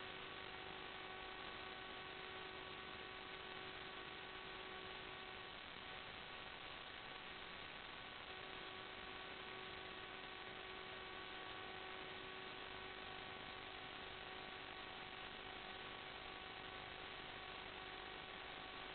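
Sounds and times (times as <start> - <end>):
electrical hiss and hum: 0.0 - 18.9
faint whining tones: 0.0 - 18.9.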